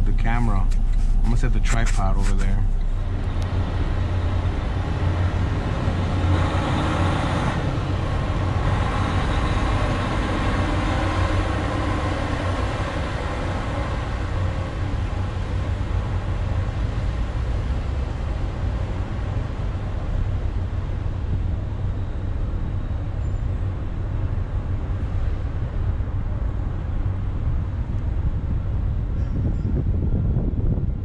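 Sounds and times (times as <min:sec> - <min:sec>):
diesel truck engine rumbling: 0:00.0 - 0:29.0.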